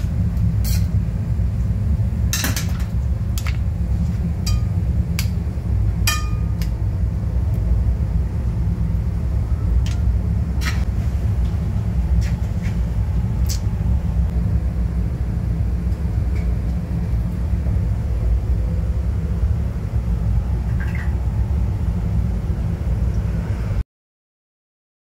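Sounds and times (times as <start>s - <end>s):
low machine rumble: 0.0s - 23.8s.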